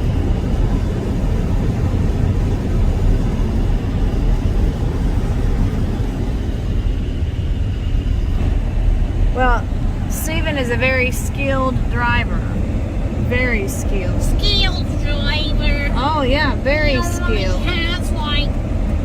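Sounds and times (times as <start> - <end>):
vehicle rumble on icy road: 0.0 - 19.0.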